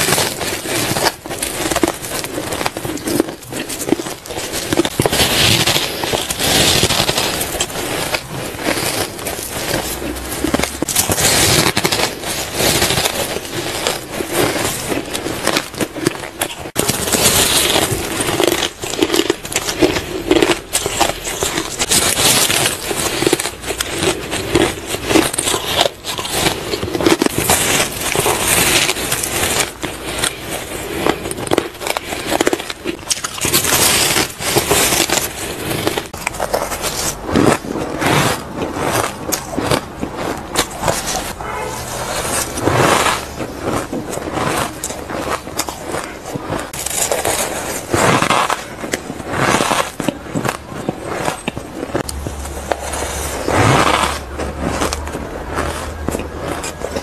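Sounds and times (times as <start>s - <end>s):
shaved ice crunched between teeth: 0.0s - 57.0s.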